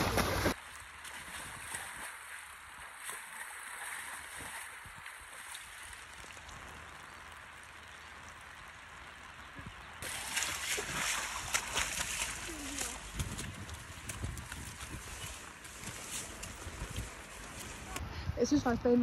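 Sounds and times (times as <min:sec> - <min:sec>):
horse splashing in shallow water: 0:00.0 - 0:08.7, 0:09.5 - 0:18.2.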